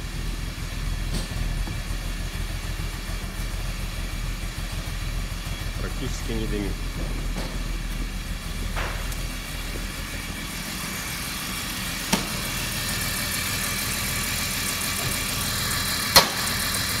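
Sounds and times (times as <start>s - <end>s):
car engine idling unevenly: 0.0s - 17.0s.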